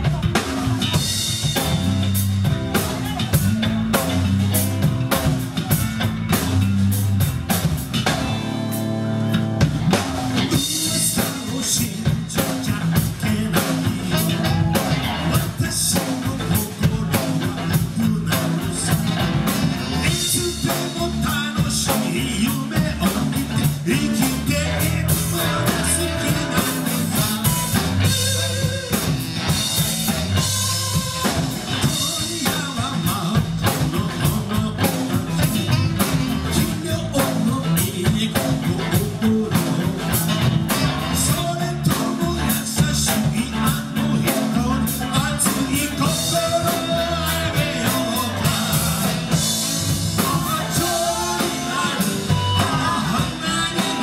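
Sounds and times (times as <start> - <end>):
drum kit steady beat: 0.0 - 54.0
electric guitars: 0.0 - 54.0.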